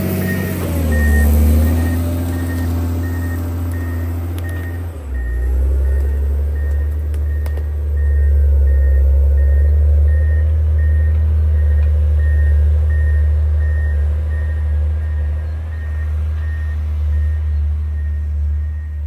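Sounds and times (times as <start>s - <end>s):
diesel engine running: 0.0s - 19.0s
backup alarm beeping: 0.2s - 19.0s.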